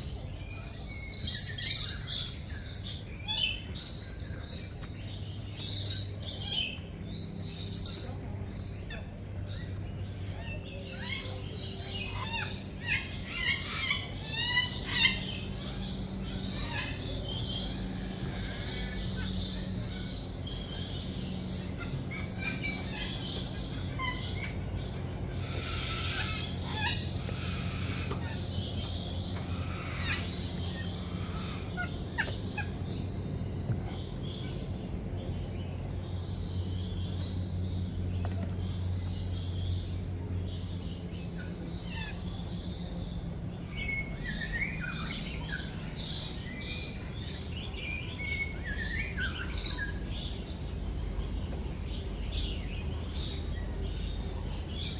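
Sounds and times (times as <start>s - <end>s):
parrots chirping and calling: 0.0s - 54.9s
steady low hum: 0.0s - 54.9s.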